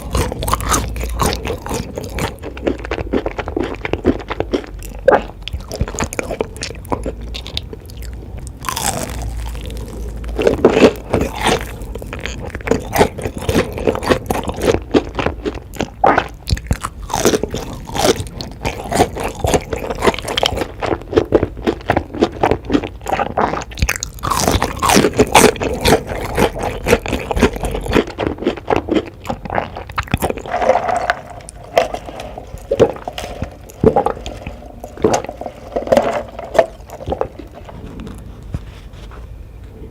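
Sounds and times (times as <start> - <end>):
crunchy chewing: 0.0 - 39.8.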